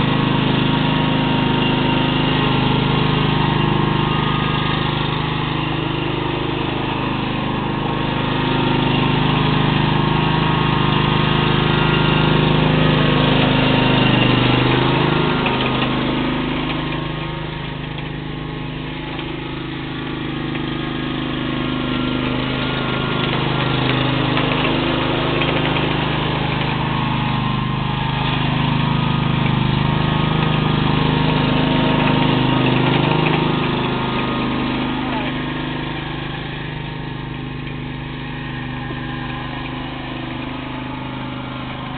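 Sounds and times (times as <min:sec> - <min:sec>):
lawn mower engine running: 0:00.0 - 0:41.9.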